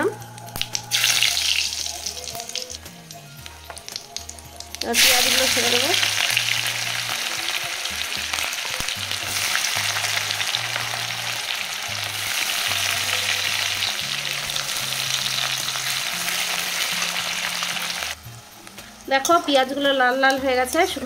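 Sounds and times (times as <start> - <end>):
onions sizzling in hot oil: 0.4 - 21.0.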